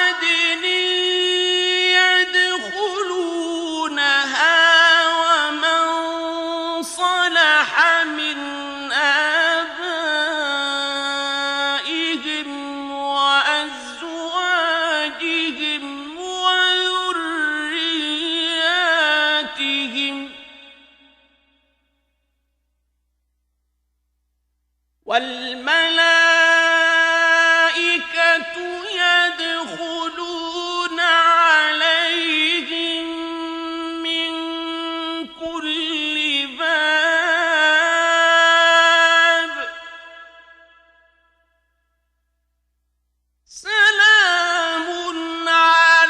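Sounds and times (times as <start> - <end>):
man reciting melodically: 0.0 - 21.1, 25.1 - 41.1, 43.5 - 46.0.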